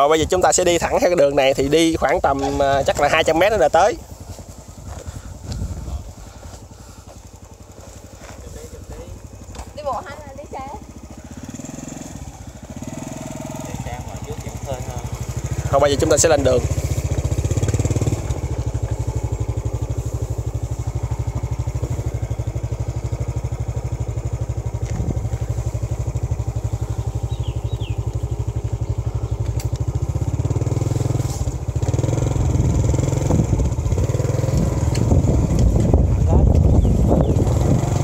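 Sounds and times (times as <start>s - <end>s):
small motorcycle engine running: 0.0s - 38.0s.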